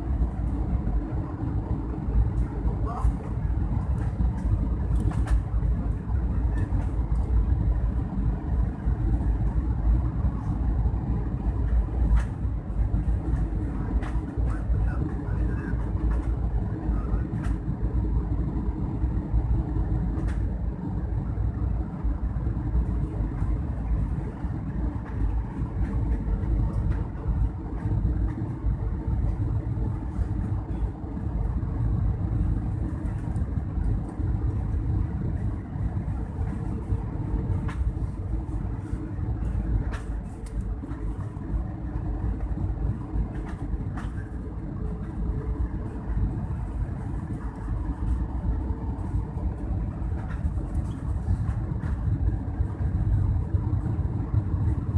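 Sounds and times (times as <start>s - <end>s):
aircraft engine hum: 0.0s - 54.9s
airflow rumble: 0.0s - 54.9s.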